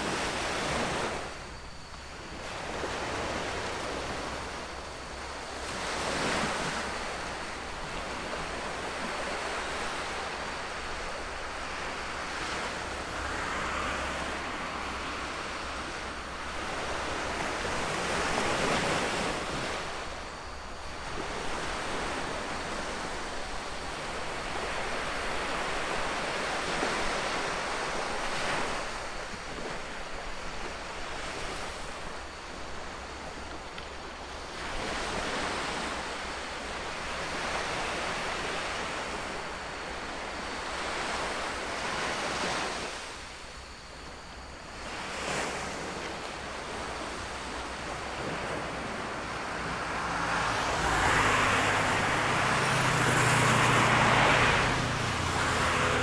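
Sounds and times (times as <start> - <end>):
sea surf washing ashore: 0.0 - 56.0.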